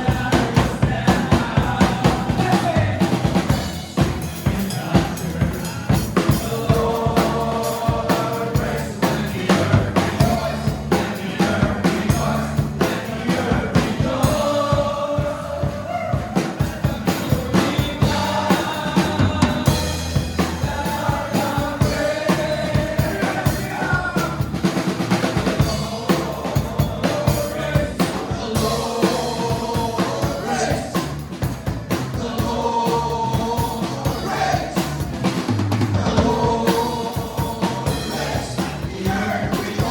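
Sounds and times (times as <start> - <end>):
drum kit beat: 0.0 - 39.9
people singing: 0.0 - 39.9.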